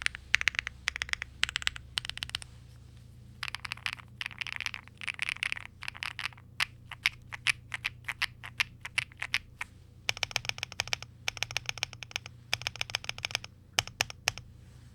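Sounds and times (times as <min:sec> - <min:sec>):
mechanical keyboard typing: 0:00.0 - 0:02.4, 0:03.4 - 0:14.5.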